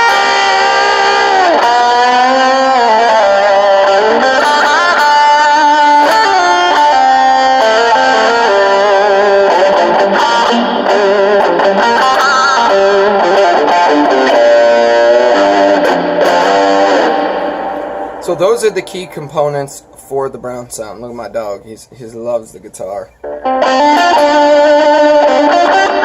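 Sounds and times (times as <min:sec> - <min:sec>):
overdriven electric guitar lead: 0:00.0 - 0:20.1, 0:23.2 - 0:26.0.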